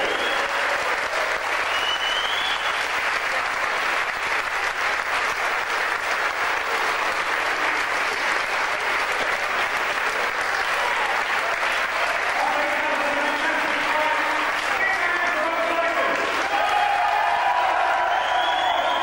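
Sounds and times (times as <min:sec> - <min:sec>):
large crowd applauding: 0:00.0 - 0:19.0.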